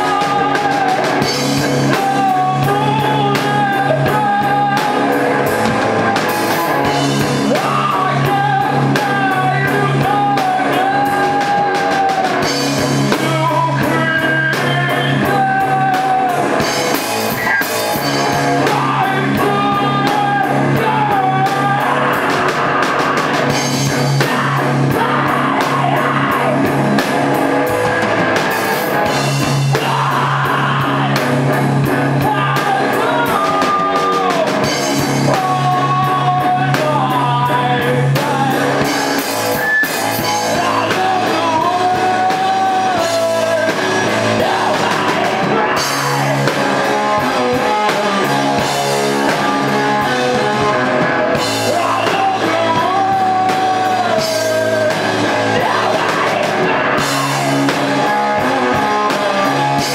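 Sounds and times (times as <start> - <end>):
person singing: 0.0 - 28.0, 28.6 - 59.9
drum kit: 0.0 - 59.9
electric guitars: 0.0 - 59.9.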